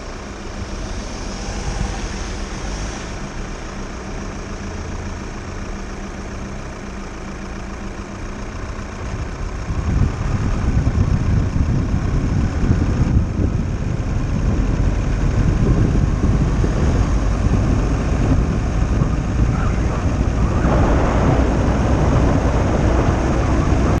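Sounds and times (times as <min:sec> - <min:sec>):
camper van engine idling: 0:00.0 - 0:24.0
rough rumble of engine tyres and wind: 0:00.0 - 0:24.0.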